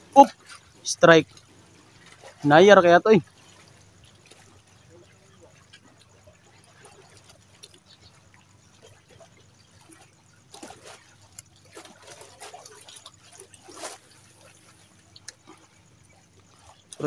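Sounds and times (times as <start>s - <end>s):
water lapping and trickling: 0.0s - 17.0s.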